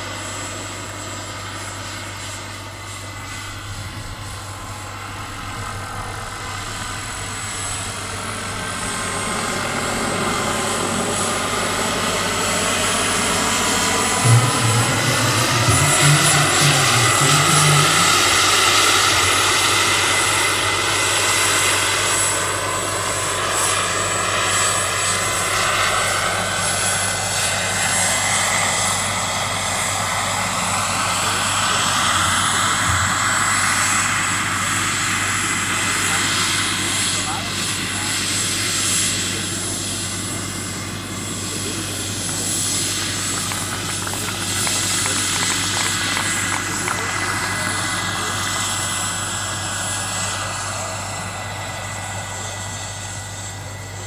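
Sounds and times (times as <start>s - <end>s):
helicopter rotor noise: 0.0s - 54.0s
turbine whine: 0.0s - 54.0s.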